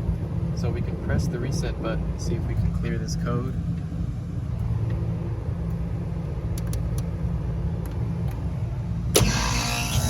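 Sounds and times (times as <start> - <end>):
hvac unit humming with tones: 0.0 - 10.0
low mechanical rumble: 0.0 - 10.0.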